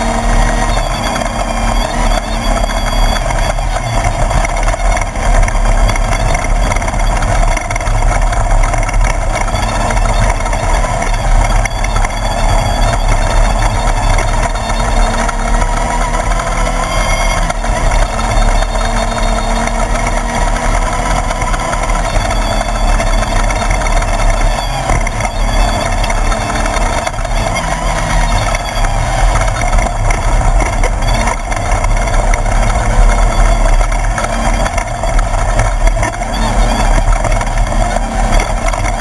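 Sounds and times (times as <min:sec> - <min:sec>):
buggy engine at speed: 0:00.0 - 0:39.0
rush of driving noise: 0:00.0 - 0:39.0.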